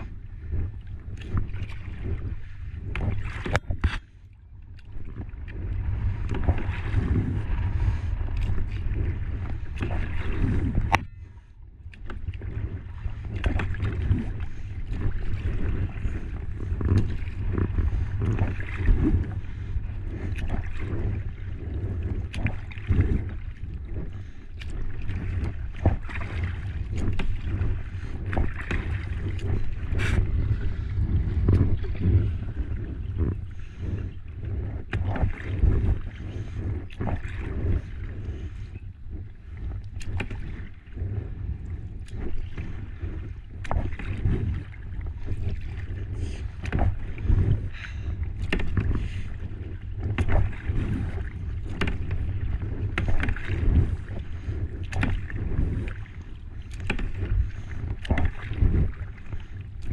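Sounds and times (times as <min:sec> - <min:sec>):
water lapping against kayak hull: 0:00.0 - 0:59.9
wind rumbling on microphone: 0:00.0 - 0:59.9.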